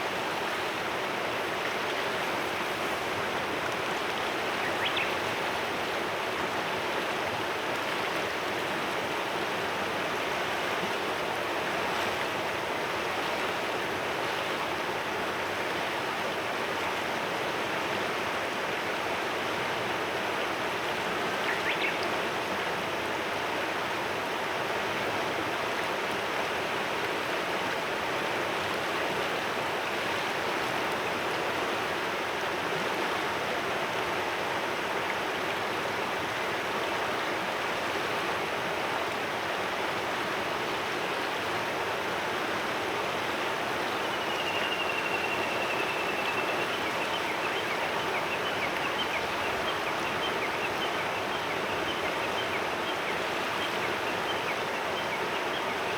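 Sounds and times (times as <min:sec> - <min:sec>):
river murmuring: 0:00.0 - 0:55.9.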